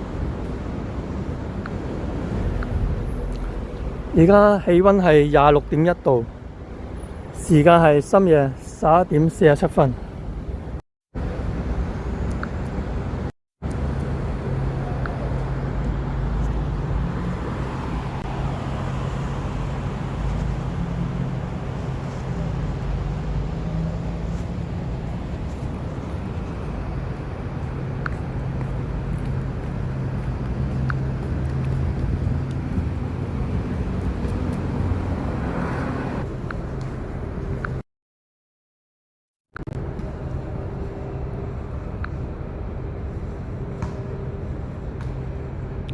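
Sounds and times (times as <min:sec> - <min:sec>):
road traffic hum: 0:00.0 - 0:37.8, 0:39.6 - 0:45.9
vehicles passing: 0:00.0 - 0:37.8, 0:39.6 - 0:45.9.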